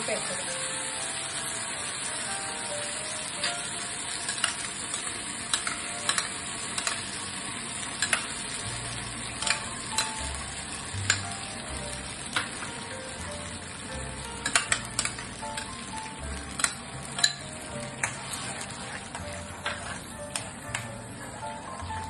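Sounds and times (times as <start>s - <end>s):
sauce sizzling in hot oil: 0.0s - 22.0s
sharp clicks in sizzle: 0.8s - 21.1s.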